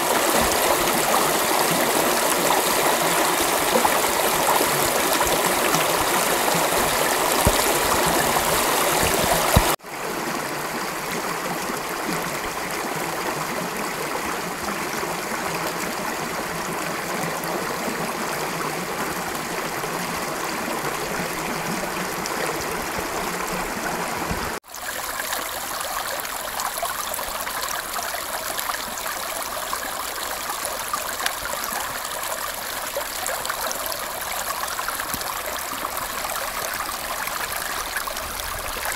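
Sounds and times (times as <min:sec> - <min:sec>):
creek water running over rocks: 0:00.0 - 0:38.9.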